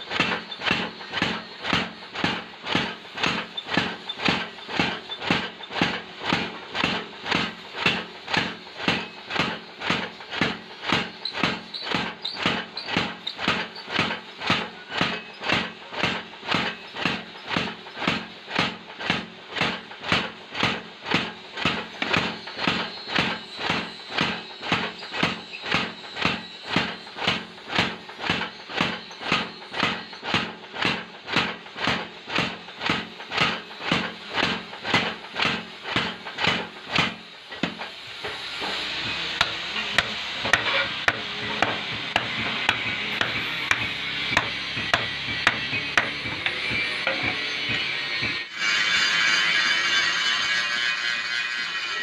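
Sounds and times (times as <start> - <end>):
power hammer striking metal: 0.0 - 51.7.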